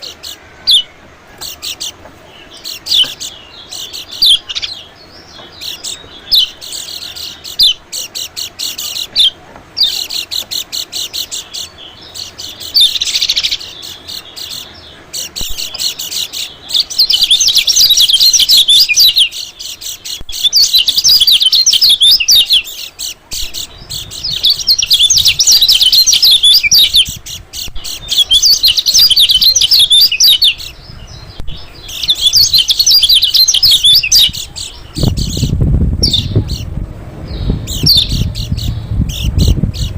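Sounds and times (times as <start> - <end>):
bird twittering chatter: 0.0 - 39.9.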